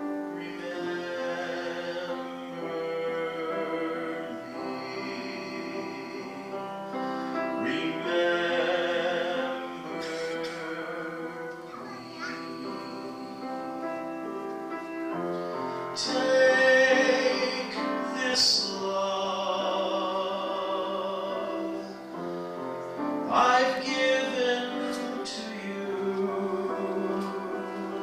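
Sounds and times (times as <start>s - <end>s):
keyboard chords: 0.0s - 28.0s
person singing with vibrato: 0.0s - 28.0s.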